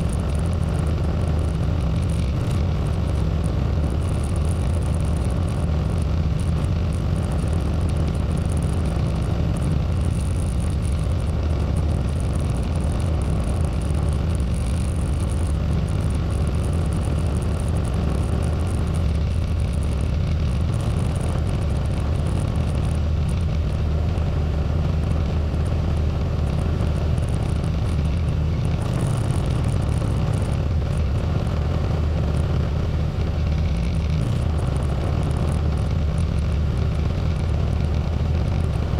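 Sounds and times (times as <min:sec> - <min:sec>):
tractor engine humming: 0:00.0 - 0:38.9.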